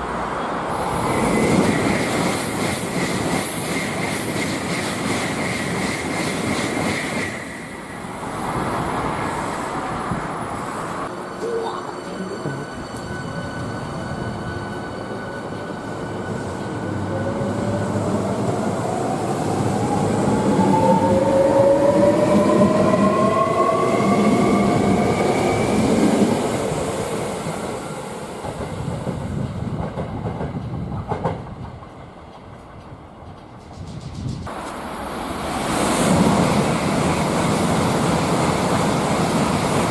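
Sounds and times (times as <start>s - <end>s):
rail noise: 0.0s - 39.9s.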